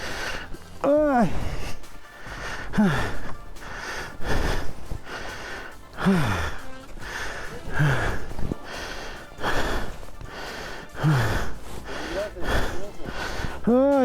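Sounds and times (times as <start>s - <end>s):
man gasping and panting: 0.0s - 14.0s.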